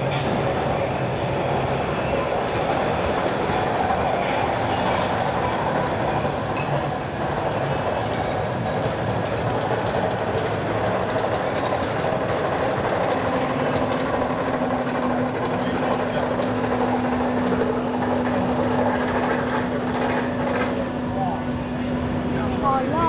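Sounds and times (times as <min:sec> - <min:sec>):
ride rolling on its track: 0:00.0 - 0:23.0.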